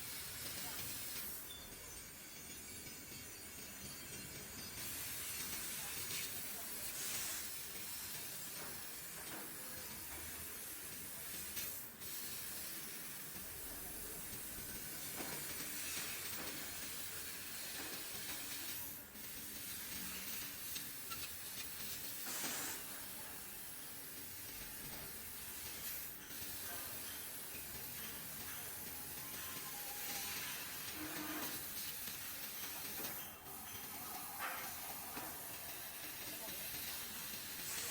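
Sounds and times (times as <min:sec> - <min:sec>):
laser cutter high hiss: 0:00.0 - 0:37.9.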